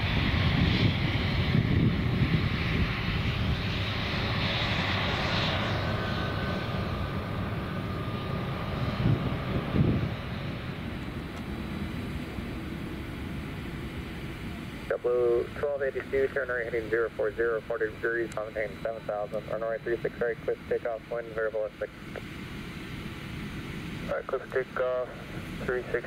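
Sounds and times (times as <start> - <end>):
faint engine whine: 0.0 - 26.0
jet engines roaring: 0.0 - 26.0.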